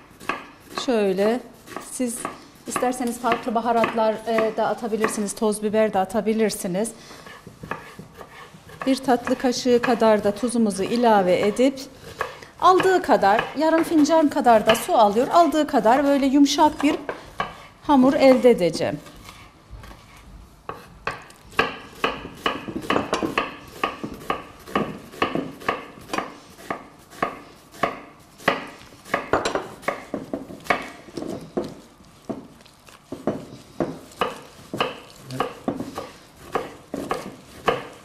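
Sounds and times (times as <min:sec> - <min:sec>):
knife chopping on cutting board: 0:00.0 - 0:05.3, 0:07.2 - 0:38.0.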